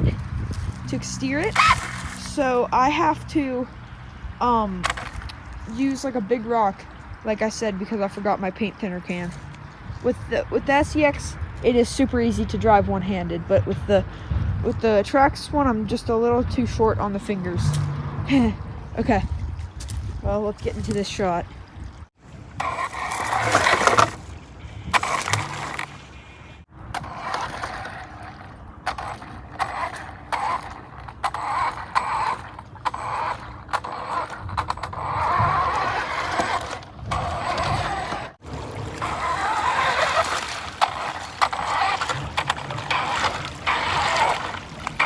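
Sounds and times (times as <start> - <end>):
rc truck driving over rocks: 0.0 - 21.4, 22.3 - 45.0
running creek: 0.0 - 45.0
tyres splashing water: 0.0 - 45.0.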